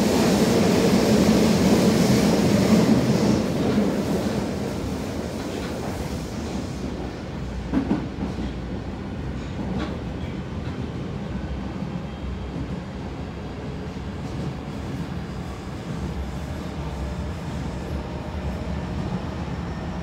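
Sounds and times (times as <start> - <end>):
subway train wheels rumbling on rail: 0.0 - 20.0.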